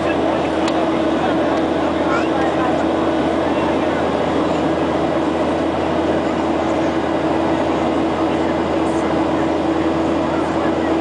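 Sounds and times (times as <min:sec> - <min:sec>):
constant low hum tone: 0:00.0 - 0:11.0
jet engines droning in cabin: 0:00.0 - 0:11.0.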